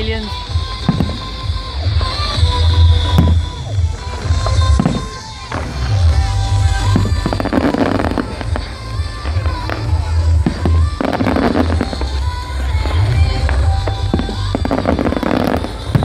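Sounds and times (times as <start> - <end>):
fireworks crackling: 0.0 - 16.0
fireworks going off: 0.0 - 16.0
music with heavy bass: 0.0 - 16.0.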